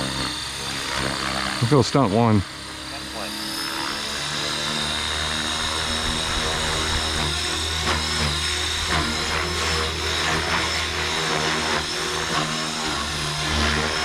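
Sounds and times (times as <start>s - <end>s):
motor and gear whine: 0.0s - 14.0s
rotor drone and whoosh: 0.0s - 14.0s.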